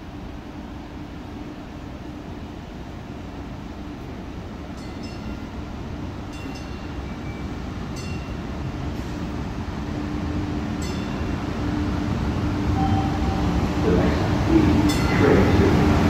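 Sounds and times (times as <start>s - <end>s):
light-rail train rumbling in tunnel: 0.0s - 16.0s.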